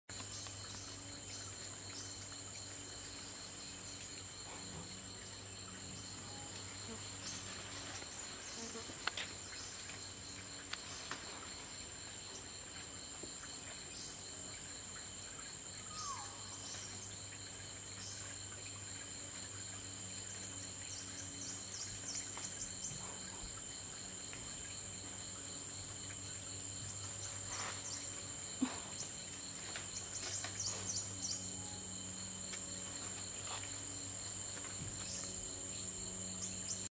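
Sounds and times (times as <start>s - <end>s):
high-pitched insect buzz: 0.1s - 36.9s
pulsing insect trill: 0.1s - 36.9s.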